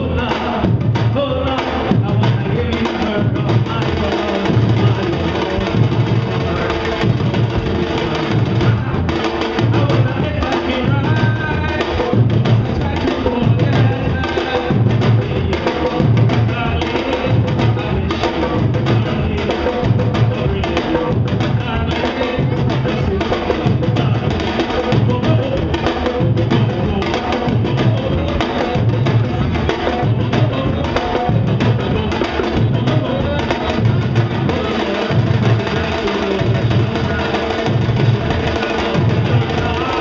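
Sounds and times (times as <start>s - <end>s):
deep bass drums: 0.0s - 40.0s
sharp hand drum strokes: 0.0s - 40.0s.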